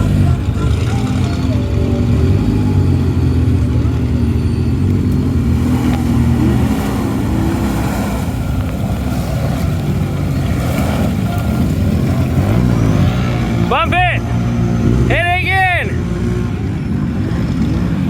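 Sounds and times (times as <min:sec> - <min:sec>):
truck engine revving in mud: 0:00.0 - 0:18.0.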